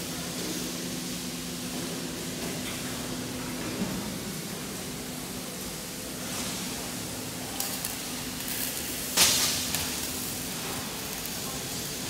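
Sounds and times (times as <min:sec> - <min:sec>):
factory floor noise: 0:00.0 - 0:12.0.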